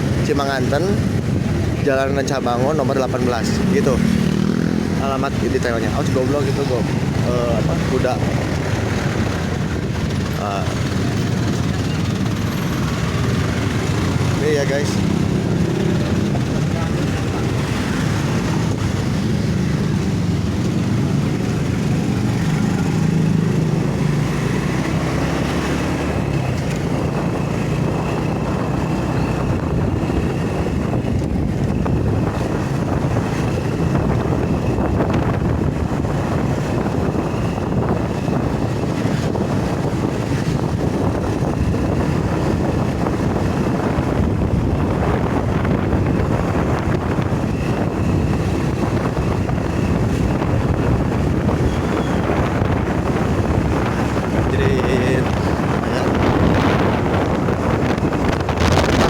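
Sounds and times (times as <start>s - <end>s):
road noise: 0.0s - 59.0s
wind buffeting microphone: 0.0s - 59.0s
motorcycle engine droning: 2.6s - 59.0s.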